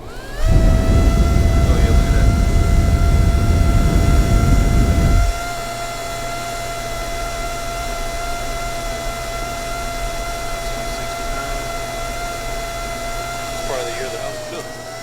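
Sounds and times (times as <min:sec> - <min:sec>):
air rushing from dryer vent: 0:00.0 - 0:15.0
machine hum with high whine: 0:00.0 - 0:15.0.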